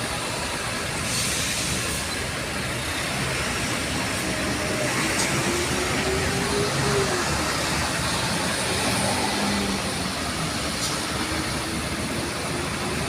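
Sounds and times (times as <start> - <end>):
diesel bus engines running: 0.0 - 13.0
vehicle noise din: 0.0 - 13.0.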